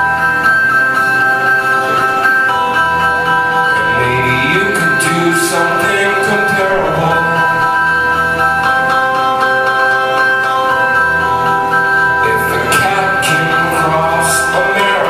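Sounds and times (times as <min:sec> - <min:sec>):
keyboard sustained chords: 0:00.0 - 0:15.0
wavering melody line: 0:00.0 - 0:15.0.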